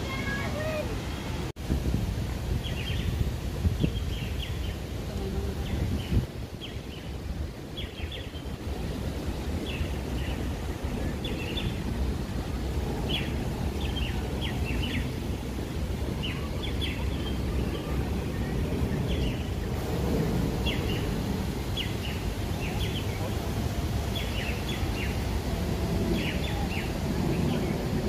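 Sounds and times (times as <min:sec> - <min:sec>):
small birds chirping: 0:02.5 - 0:08.6, 0:09.4 - 0:12.3, 0:12.9 - 0:28.0.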